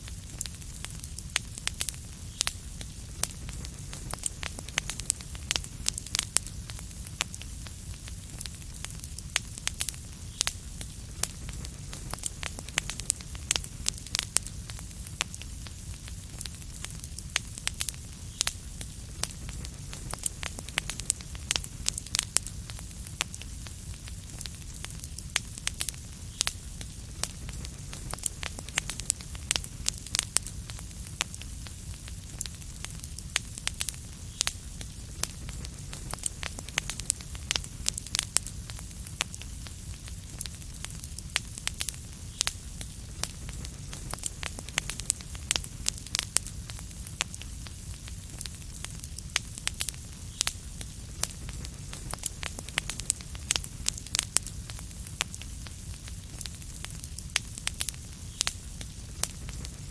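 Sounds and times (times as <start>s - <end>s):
fire low rumble: 0.0s - 59.9s
fireplace fire crackling: 0.0s - 59.9s.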